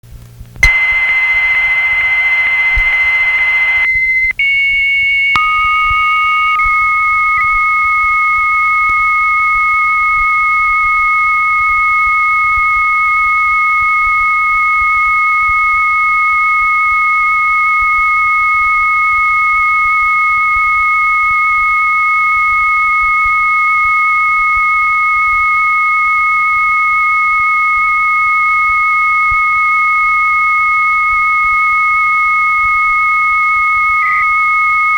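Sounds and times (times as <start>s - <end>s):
high steady modem tone with hiss: 0.2s - 34.9s
two whistling modem tones: 0.6s - 34.9s.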